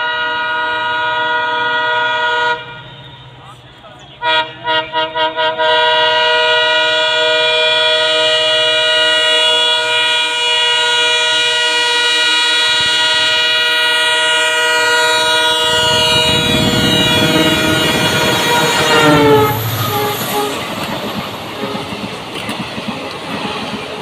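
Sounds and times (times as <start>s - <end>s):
locomotive air horn blast: 0.0s - 3.4s, 4.2s - 22.2s
train rumbling: 0.0s - 24.0s.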